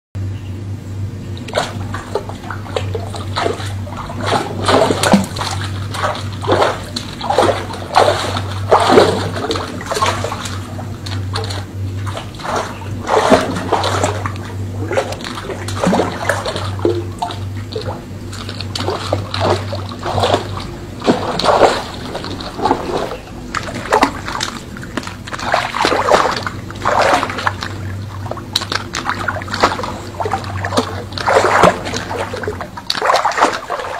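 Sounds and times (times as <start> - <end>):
steady low hum: 0.2 - 33.9
water splashing and sloshing: 0.7 - 33.9.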